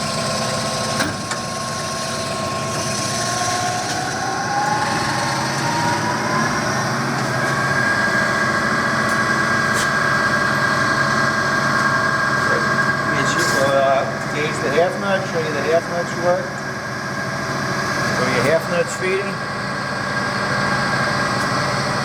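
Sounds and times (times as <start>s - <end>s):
lathe humming with rising whine: 0.0s - 22.0s.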